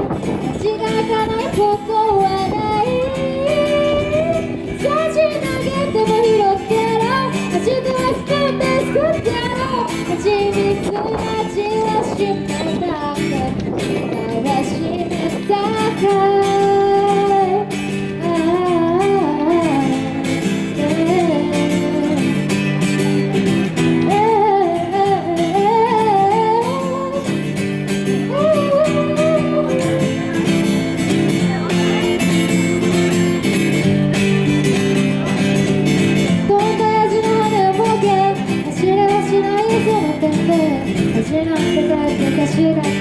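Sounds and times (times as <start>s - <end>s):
woman singing: 0.0s - 23.1s, 23.8s - 30.6s, 36.1s - 43.0s
acoustic guitar strumming: 0.0s - 43.0s.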